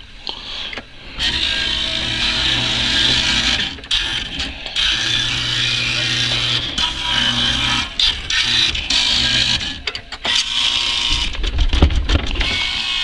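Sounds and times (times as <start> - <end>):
arcade machines whirring hum: 0.0 - 13.0.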